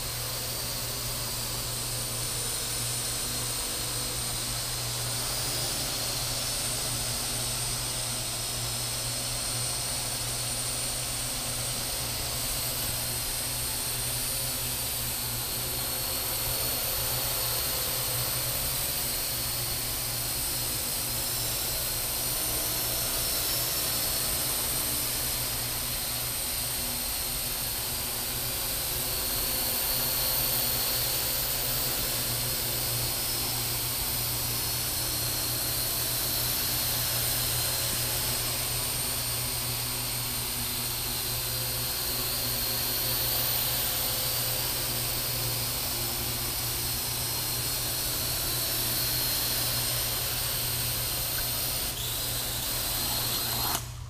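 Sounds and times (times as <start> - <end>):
drones whirring: 0.0 - 54.0.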